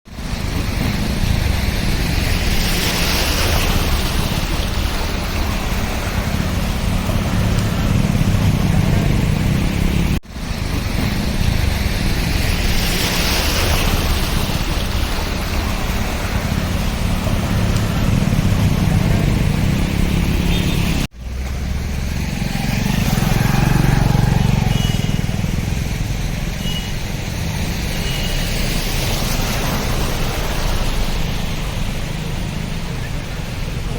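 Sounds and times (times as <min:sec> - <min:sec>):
road noise: 0:00.0 - 0:33.9
vehicle engines running: 0:00.1 - 0:33.9.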